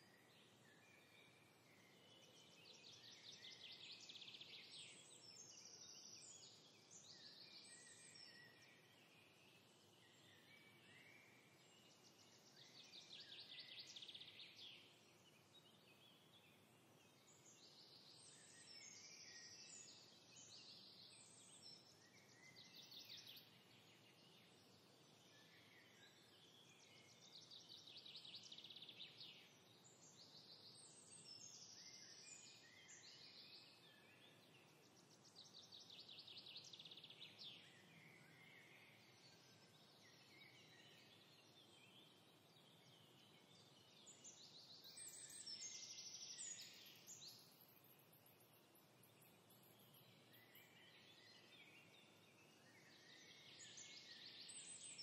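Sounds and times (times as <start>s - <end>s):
low steady background hiss: 0.0s - 55.0s
birdsong trills and chirps: 0.1s - 55.0s.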